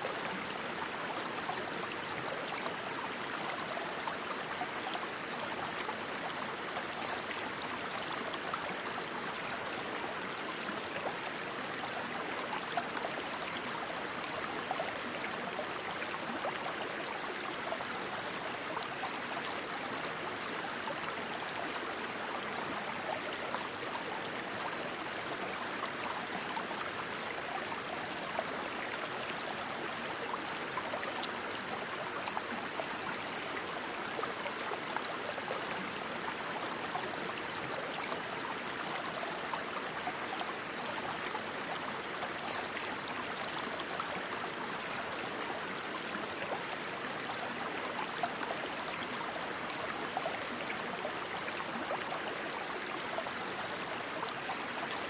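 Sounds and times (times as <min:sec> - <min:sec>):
rushing water stream: 0:00.0 - 0:55.0.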